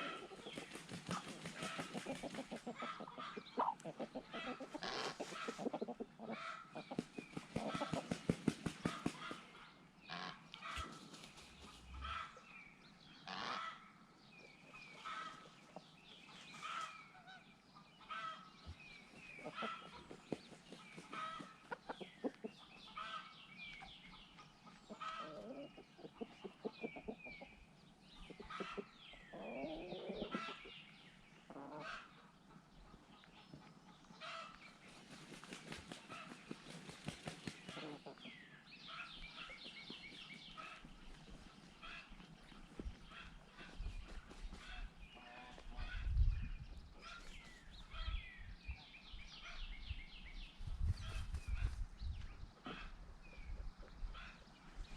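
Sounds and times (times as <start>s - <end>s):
chickens clucking: 0.0s - 12.4s, 14.6s - 48.1s.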